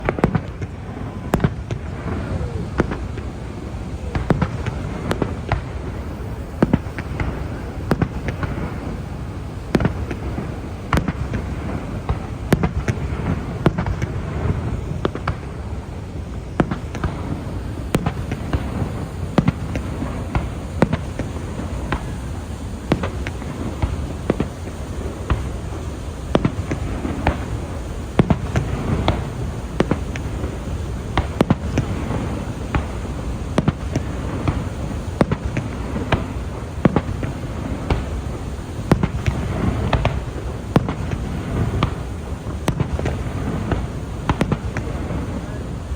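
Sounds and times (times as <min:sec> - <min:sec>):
continuous low rumble: 0:00.0 - 0:45.9
fireworks bangs: 0:00.0 - 0:45.9.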